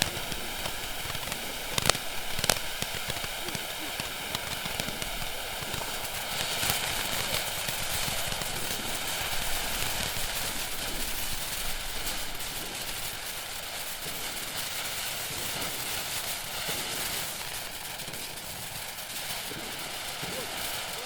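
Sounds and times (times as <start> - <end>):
firework fountain hissing and crackling: 0.0 - 21.0.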